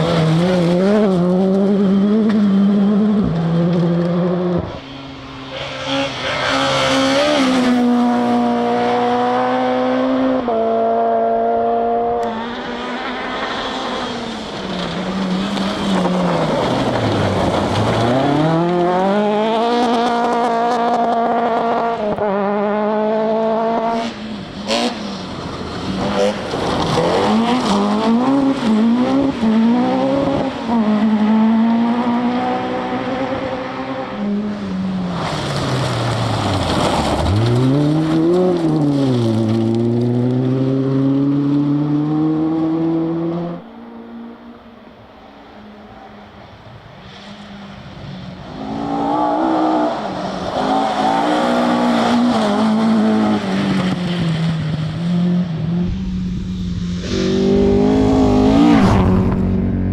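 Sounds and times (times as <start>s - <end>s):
rally car engine revving: 0.0s - 44.7s, 47.1s - 59.9s.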